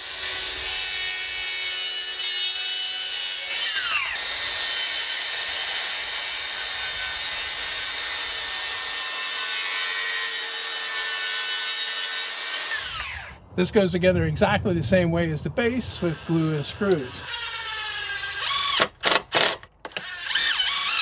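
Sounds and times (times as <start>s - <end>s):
circular saw cutting wood: 0.0s - 13.4s, 15.8s - 21.0s.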